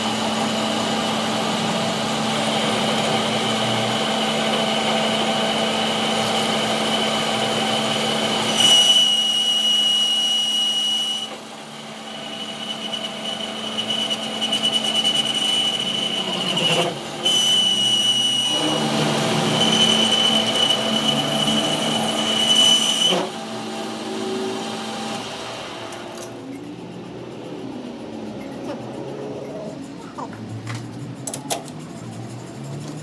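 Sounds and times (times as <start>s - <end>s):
workshop machine whining: 0.0s - 33.0s.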